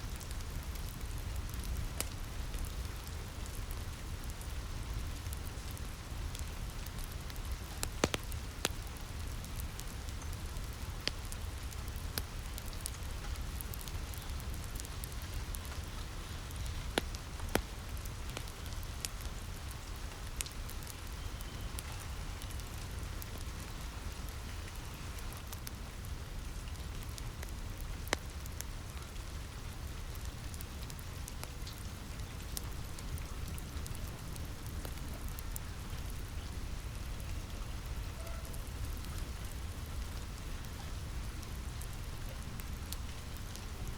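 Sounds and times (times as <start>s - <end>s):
steady rain: 0.0s - 43.9s
wood fire popping and crackling: 0.0s - 43.9s.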